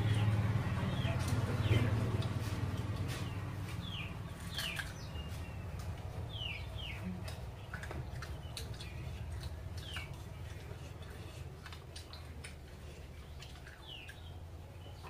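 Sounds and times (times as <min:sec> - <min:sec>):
low steady hum: 0:00.0 - 0:15.0
small birds chirping: 0:00.0 - 0:15.0
man chewing with mouth clicks: 0:01.2 - 0:15.0.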